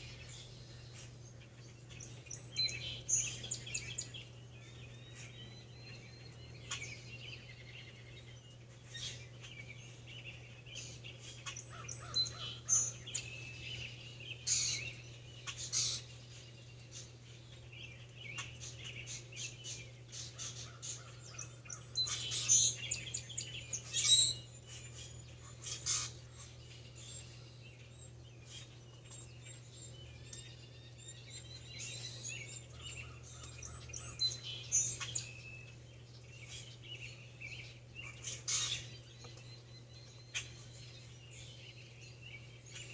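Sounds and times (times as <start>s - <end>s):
songbirds chirping and singing: 0.0s - 42.9s.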